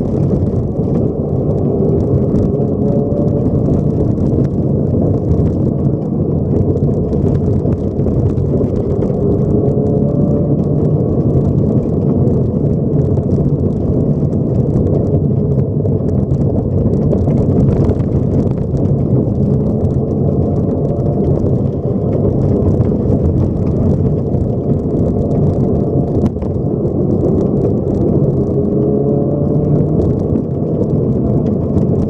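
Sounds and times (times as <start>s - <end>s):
car engine under load: 0.0s - 32.0s
small clicks and knocks: 0.0s - 32.0s
tyres rumbling on gravel: 0.0s - 32.0s.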